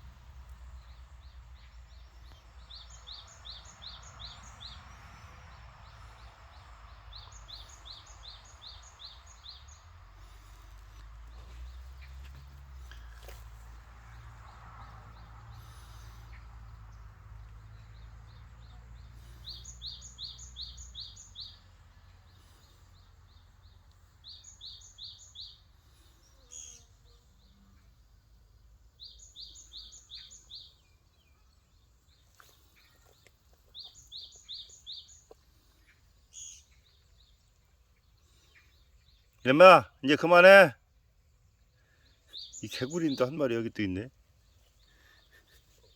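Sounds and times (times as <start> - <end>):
bird chirps: 0.0 - 13.4, 15.1 - 27.8, 29.0 - 40.6, 41.6 - 45.9
small songbird singing: 0.0 - 40.6, 41.2 - 45.9.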